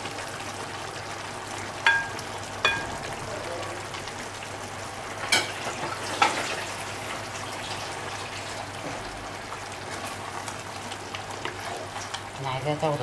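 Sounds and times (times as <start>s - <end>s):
sauce simmering and sizzling: 0.0s - 13.0s.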